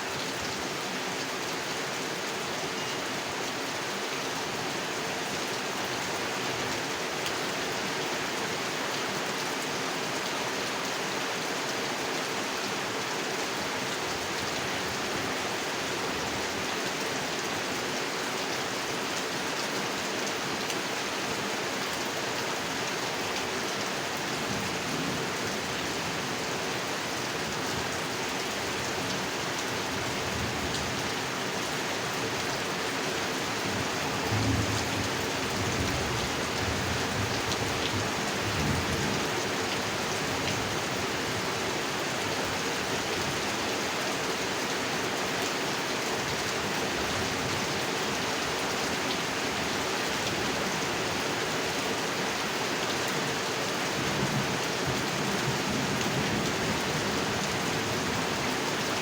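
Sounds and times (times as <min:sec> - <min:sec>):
heavy rain on pond: 0:00.0 - 0:59.0.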